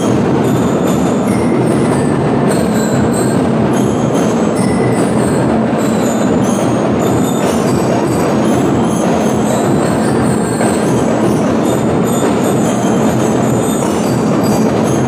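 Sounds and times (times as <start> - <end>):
bell lyre ringing notes: 0.0 - 15.0
marching drums: 0.0 - 15.0.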